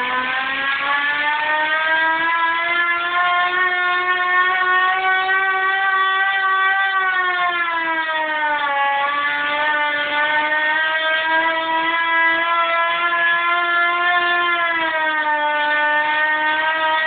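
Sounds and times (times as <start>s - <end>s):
siren continuous tone: 0.0s - 17.0s.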